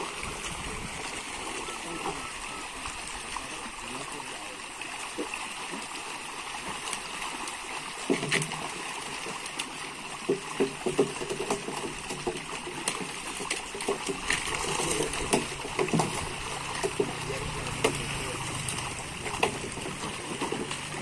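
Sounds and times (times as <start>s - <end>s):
fish thrashing and splashing: 0.0s - 21.0s.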